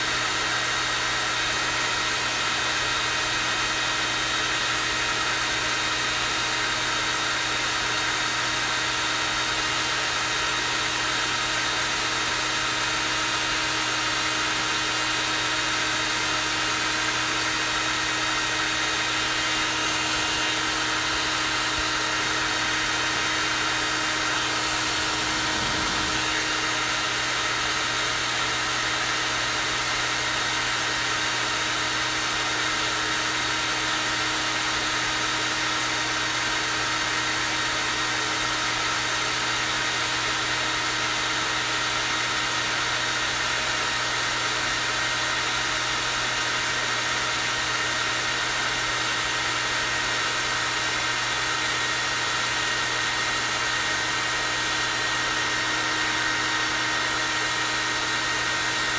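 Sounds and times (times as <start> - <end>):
hair dryer running: 0.0 - 58.9.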